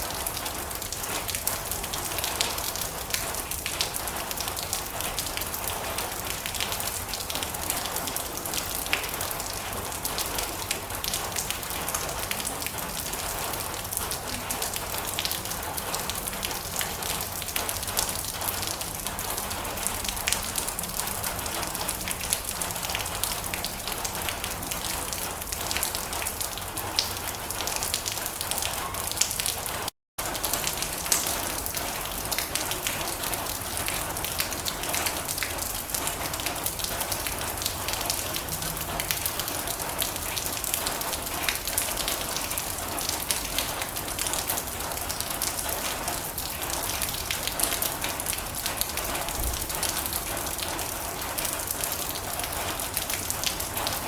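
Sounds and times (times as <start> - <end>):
rain drumming on metal roof: 0.0 - 54.0.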